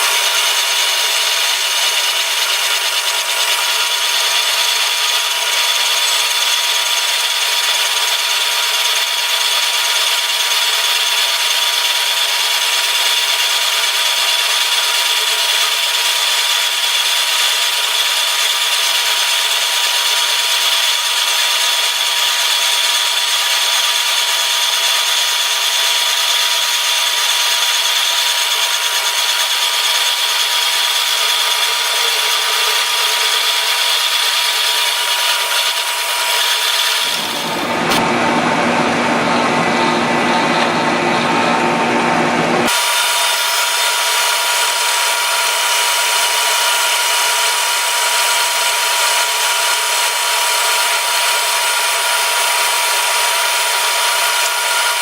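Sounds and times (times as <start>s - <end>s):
milling machine cutting metal: 0.0s - 38.1s, 42.6s - 55.0s.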